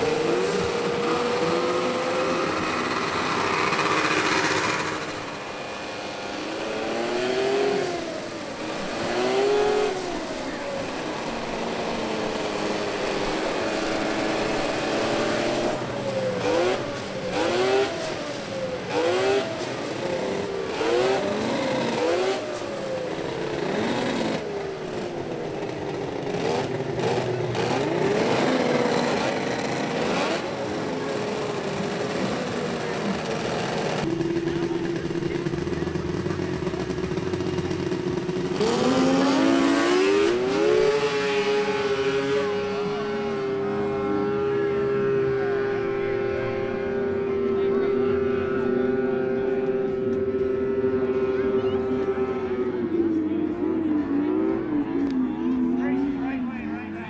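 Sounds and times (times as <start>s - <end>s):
snowmobile engines revving: 0.0s - 57.0s.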